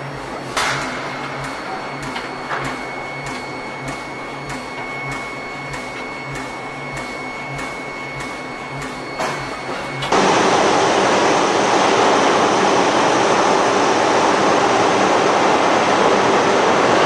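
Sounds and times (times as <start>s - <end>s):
machinery high whine: 0.0s - 17.0s.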